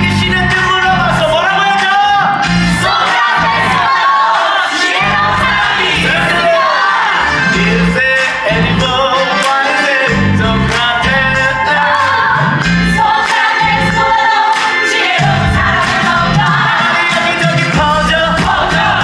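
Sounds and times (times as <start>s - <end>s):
band accompaniment with steady beat: 0.0s - 3.9s, 5.0s - 19.0s
voices singing in chorus: 0.6s - 19.0s.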